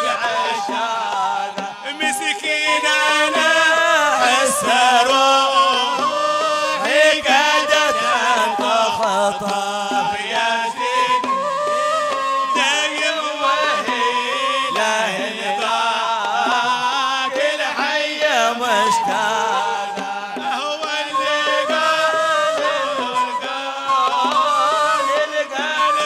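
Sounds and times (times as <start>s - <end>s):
man singing religious song: 0.0s - 11.3s, 12.5s - 26.0s.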